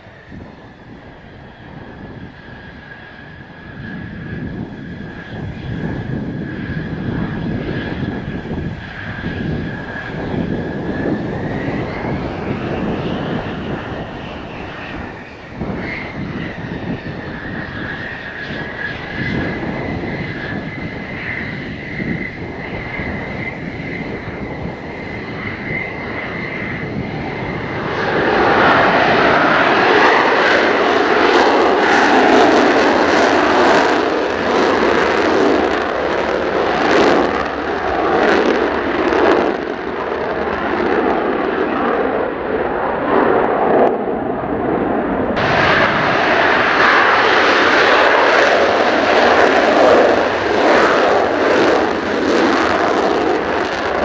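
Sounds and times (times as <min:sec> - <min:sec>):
jet engine whine and roar: 0:00.0 - 0:54.0
wind buffeting microphone: 0:00.0 - 0:54.0.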